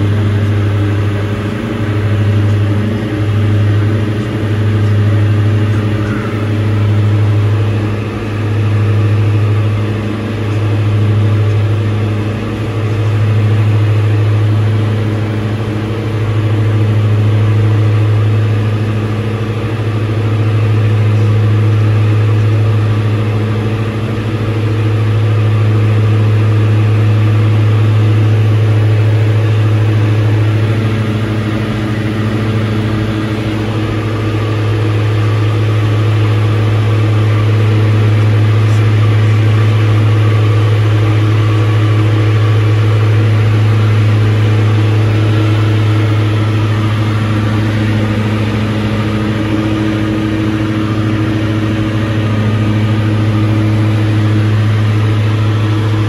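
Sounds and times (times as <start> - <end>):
aircraft engines droning in cabin: 0.0 - 56.0.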